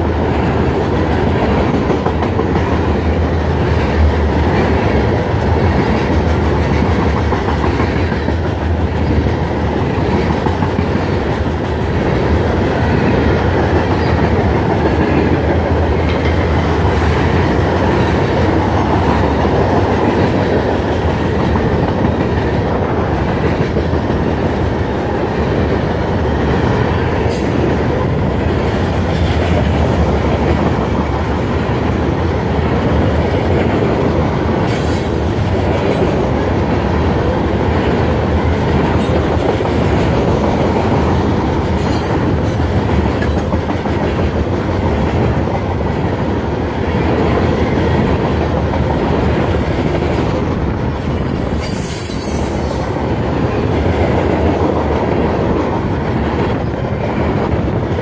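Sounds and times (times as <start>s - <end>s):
steel wheels rumbling on rails: 0.0s - 58.0s.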